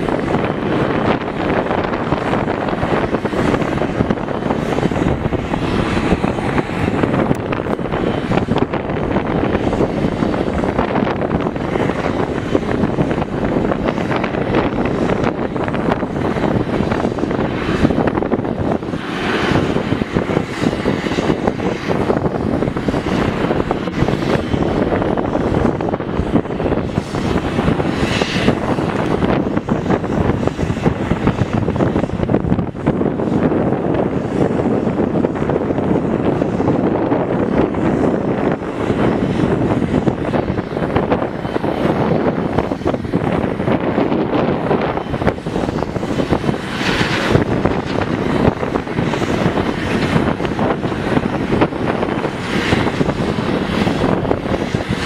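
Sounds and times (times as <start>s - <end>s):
jet engines running: 0.0s - 55.0s
wind on microphone: 0.0s - 55.0s.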